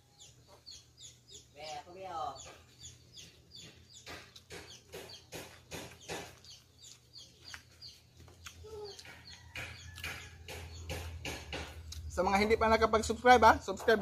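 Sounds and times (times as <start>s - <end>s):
chickens clucking: 0.0s - 12.1s.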